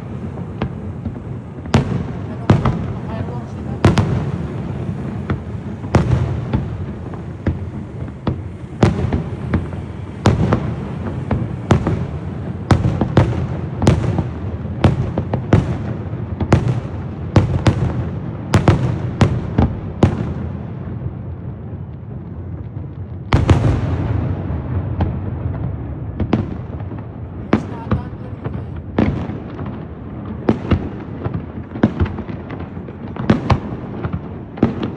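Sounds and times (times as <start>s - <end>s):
fireworks bangs: 0.0s - 34.9s.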